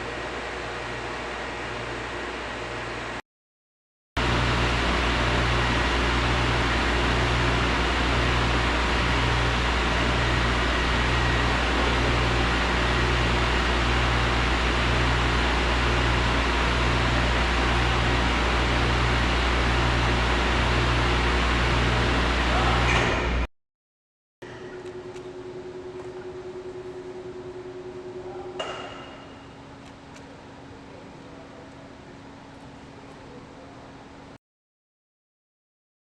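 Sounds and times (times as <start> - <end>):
machine hum and hiss: 0.0 - 3.2, 4.2 - 23.5, 24.4 - 34.4.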